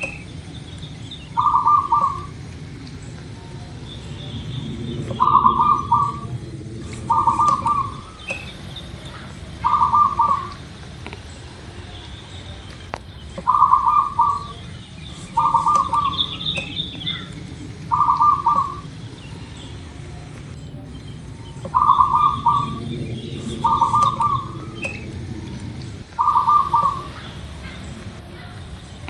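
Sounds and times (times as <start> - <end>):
small birds chirping: 0.0 - 29.0
dove cooing: 1.2 - 10.9, 13.4 - 29.0.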